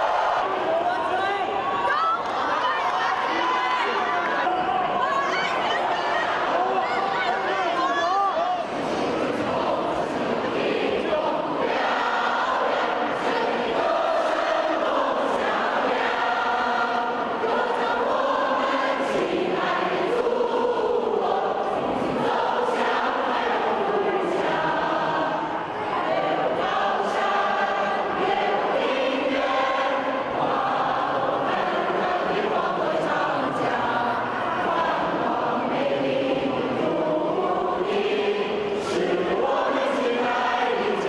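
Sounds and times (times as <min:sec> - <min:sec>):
crowd singing in unison: 0:00.0 - 0:41.0.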